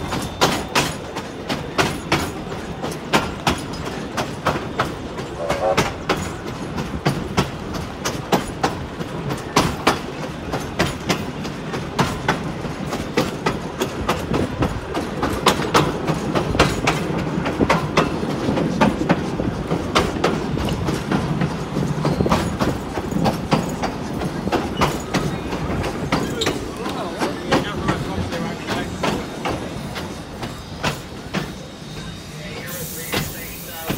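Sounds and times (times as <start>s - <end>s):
wheels clicking and knocking: 0.0s - 31.6s
train carriage rumble: 0.0s - 33.9s.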